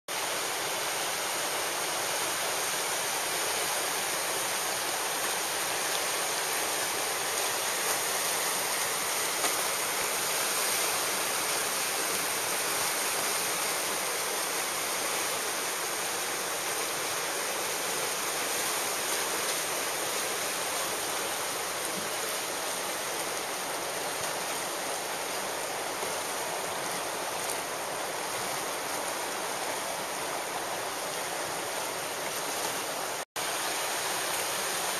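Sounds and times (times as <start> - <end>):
river rapids rushing: 0.1 - 34.9.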